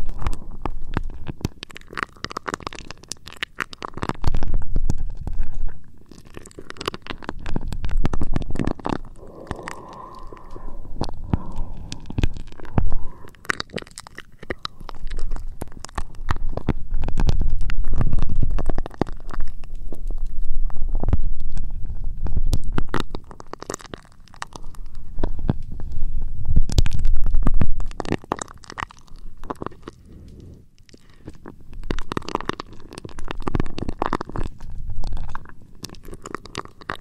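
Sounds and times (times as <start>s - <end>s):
scratching on microphone: 0.0s - 37.0s.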